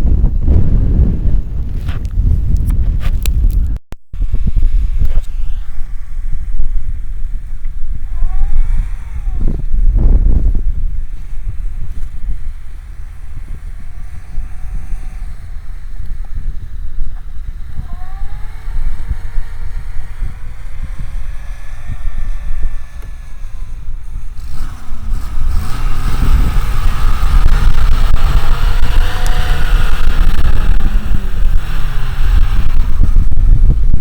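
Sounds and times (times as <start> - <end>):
wind buffeting microphone: 0.0 - 34.0
vehicle engine revving: 4.2 - 34.0.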